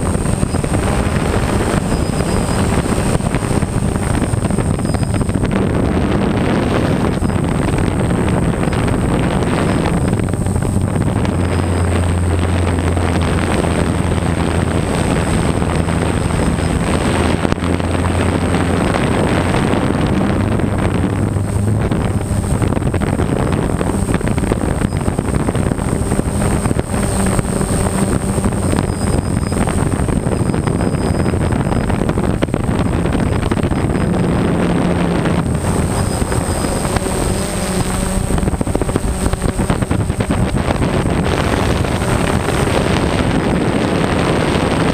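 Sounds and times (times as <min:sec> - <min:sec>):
drone motors whining: 0:00.0 - 0:44.9
wind rushing over microphone: 0:00.0 - 0:44.9.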